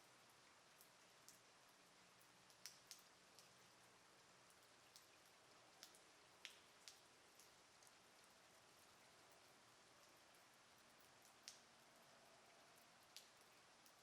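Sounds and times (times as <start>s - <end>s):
light rain hiss: 0.0s - 14.0s.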